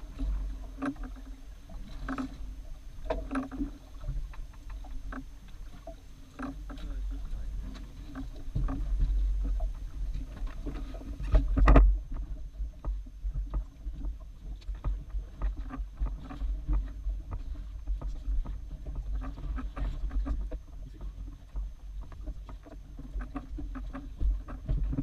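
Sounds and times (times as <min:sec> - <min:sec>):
low rumble: 0:00.0 - 0:23.2
boat knocks and thump: 0:00.0 - 0:25.0
water slapping against hull: 0:00.0 - 0:25.0.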